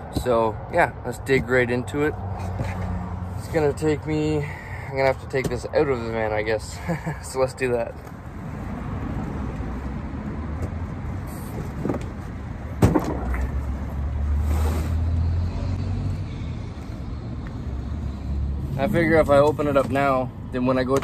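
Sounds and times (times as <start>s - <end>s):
motor vehicle rumble: 0.0s - 21.0s.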